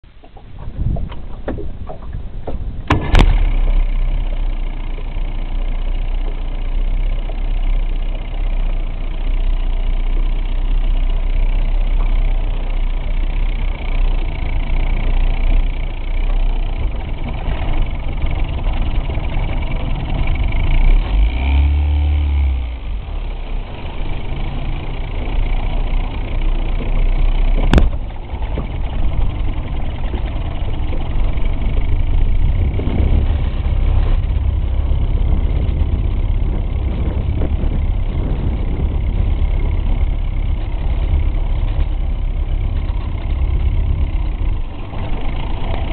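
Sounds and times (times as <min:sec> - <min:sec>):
outboard motor running: 0:00.1 - 0:45.9.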